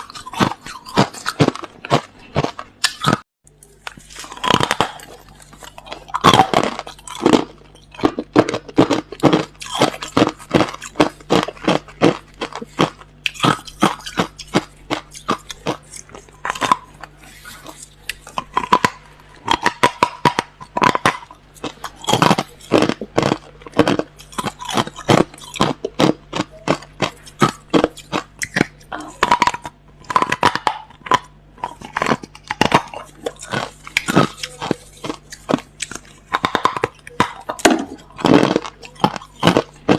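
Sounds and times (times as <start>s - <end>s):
person crunching ice: 0.0s - 3.2s, 3.8s - 39.9s.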